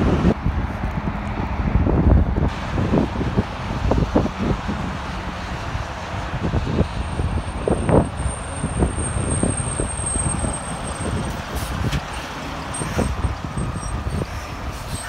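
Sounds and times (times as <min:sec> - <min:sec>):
truck passing with low rumble: 0:00.0 - 0:15.0.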